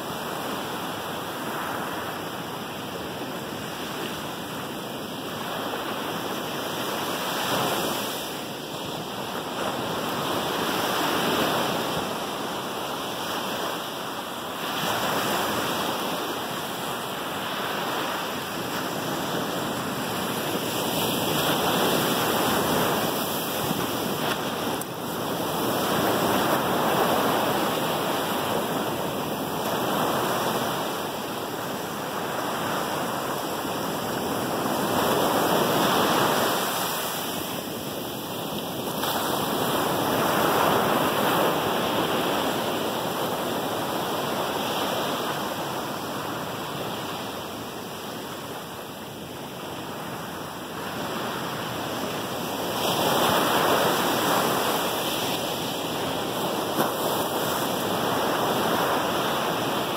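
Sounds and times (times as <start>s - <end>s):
waves breaking on sand: 0.0s - 59.9s.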